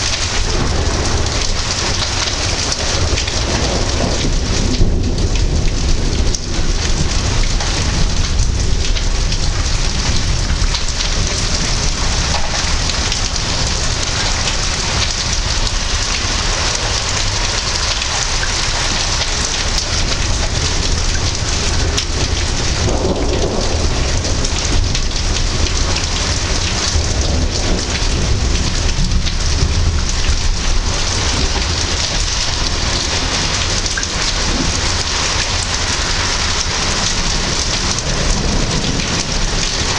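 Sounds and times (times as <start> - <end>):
heavy rain falling: 0.0 - 39.9
low rumbling thunder: 0.0 - 39.9.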